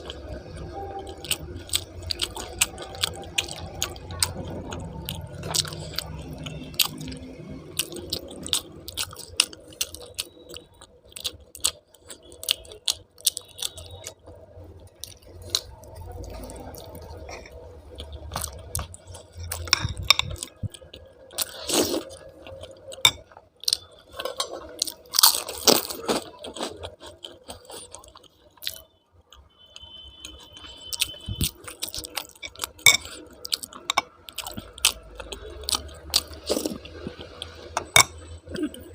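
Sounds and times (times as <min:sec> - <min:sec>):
person chewing and crunching food: 0:00.0 - 0:38.9.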